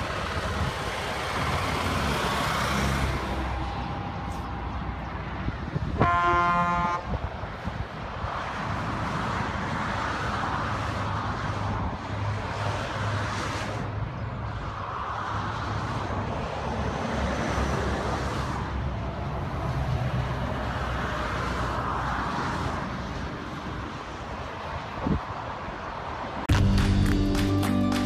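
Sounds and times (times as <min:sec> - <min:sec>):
diesel trucks driving past: 0:00.0 - 0:28.0
motorway traffic noise: 0:00.0 - 0:28.0.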